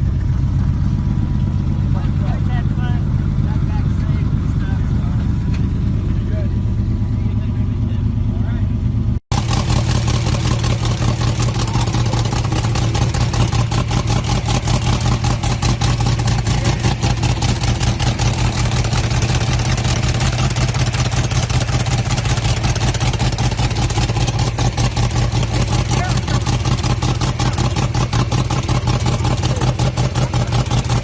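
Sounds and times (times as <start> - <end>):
car engine rumbling: 0.0 - 31.0.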